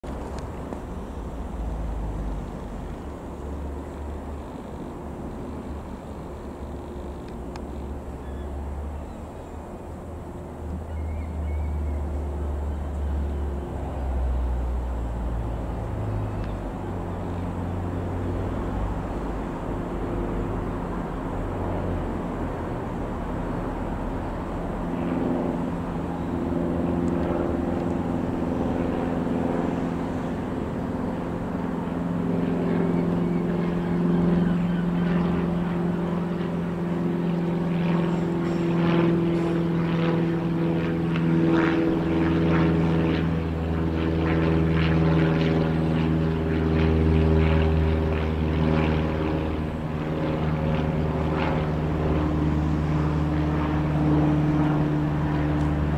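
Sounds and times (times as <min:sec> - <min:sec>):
light aircraft engine and propeller: 0:00.0 - 0:55.9.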